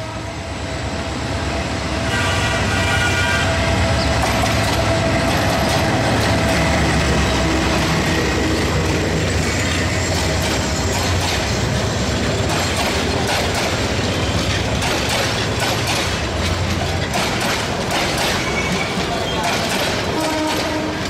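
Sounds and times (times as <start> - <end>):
train coaches rumbling past: 0.0 - 21.0
wheels clacking over rail joints: 4.0 - 21.0.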